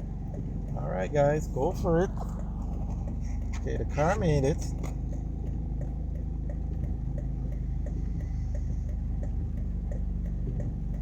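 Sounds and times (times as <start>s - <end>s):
car engine idling: 0.0s - 11.0s
hazard light relay clicking: 0.0s - 11.0s.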